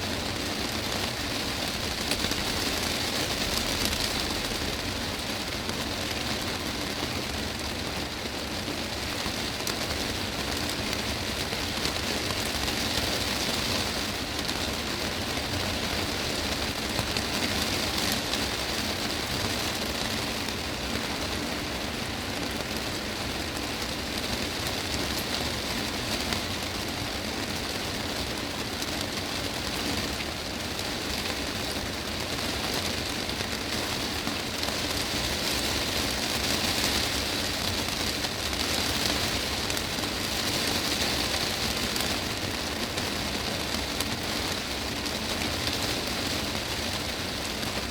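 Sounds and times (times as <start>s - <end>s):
heavy rain on glass roof: 0.0s - 47.9s.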